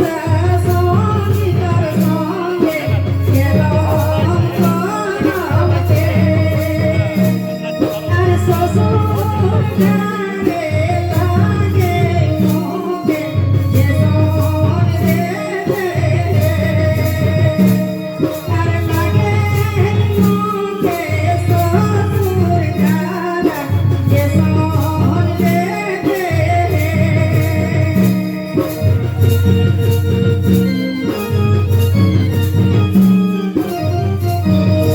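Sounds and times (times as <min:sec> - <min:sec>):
person singing: 0:00.0 - 0:31.2
drums and percussion beat: 0:00.0 - 0:34.9.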